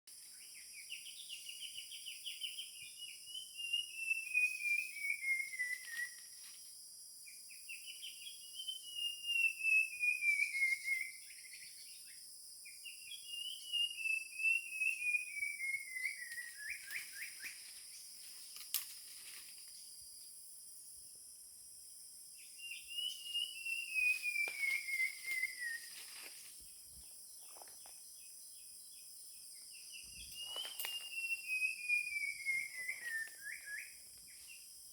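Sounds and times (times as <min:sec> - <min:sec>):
high insect drone: 0:00.2 - 0:34.9.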